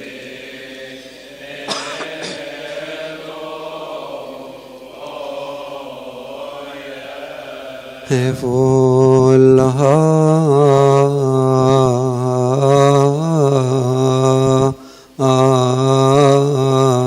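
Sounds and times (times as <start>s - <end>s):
man chanting a psalm: 0.0s - 17.0s.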